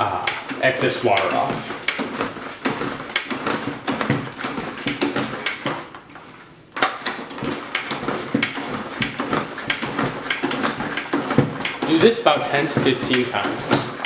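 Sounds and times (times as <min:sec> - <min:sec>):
salad spinner rattling and clicking: 0:00.0 - 0:06.2, 0:06.8 - 0:14.0.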